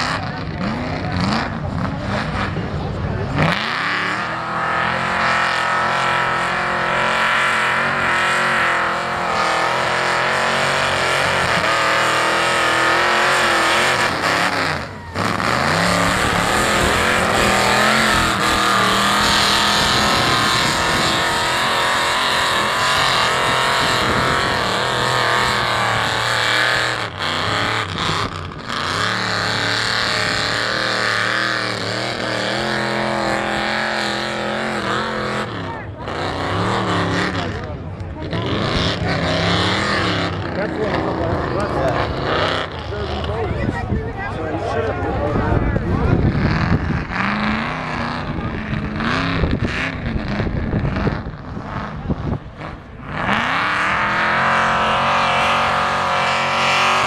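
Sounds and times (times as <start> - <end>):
truck engine revving hard: 0.0 - 57.0.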